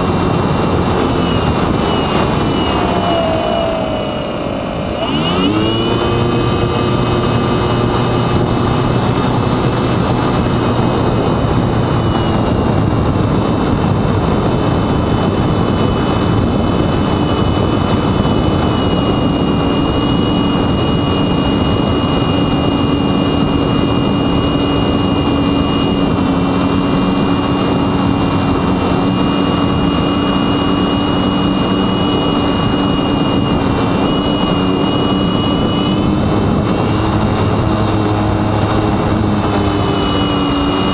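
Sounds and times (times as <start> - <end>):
electric motor propeller whine: 0.0 - 40.9
rushing wind noise: 0.0 - 40.9.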